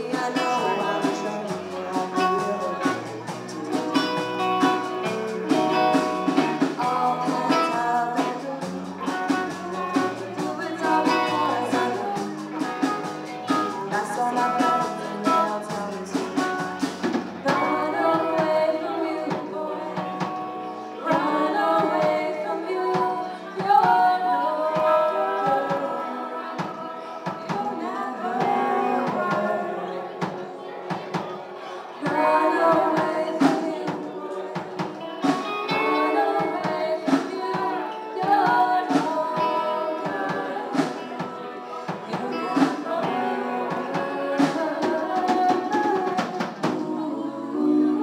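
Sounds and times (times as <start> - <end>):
woman singing: 0.0 - 31.2, 31.9 - 48.0
drum kit: 0.0 - 47.5
electric guitar: 0.0 - 48.0.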